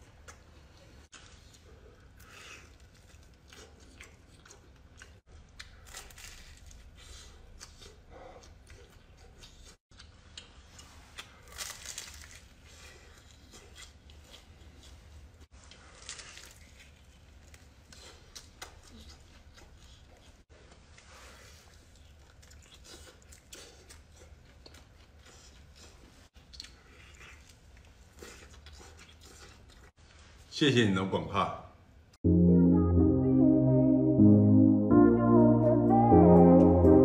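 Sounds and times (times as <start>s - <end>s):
biting and wet chewing: 0.0s - 30.2s.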